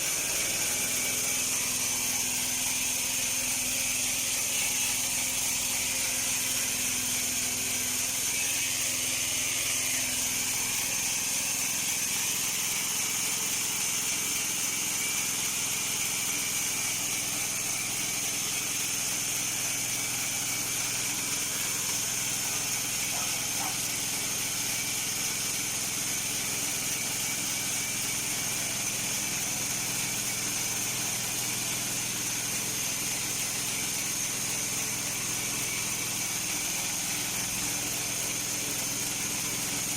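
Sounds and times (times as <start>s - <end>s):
bandsaw mill engine under load: 0.0s - 39.9s
blade sawing through log: 0.0s - 39.9s.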